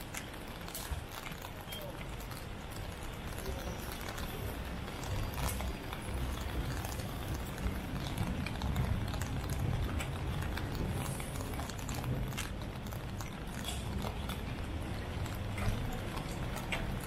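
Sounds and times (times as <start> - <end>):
low rumble of street: 0.0 - 17.0.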